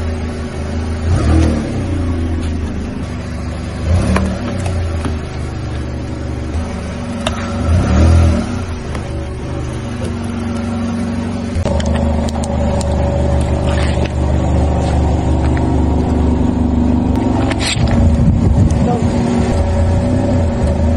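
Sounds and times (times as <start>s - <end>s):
car engine running at low revs: 0.0s - 20.9s.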